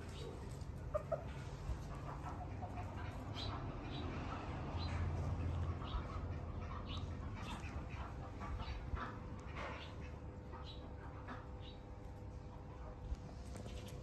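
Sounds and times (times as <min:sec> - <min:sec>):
chickens clucking and chirping: 0:00.0 - 0:14.0
low background hum: 0:00.0 - 0:14.0.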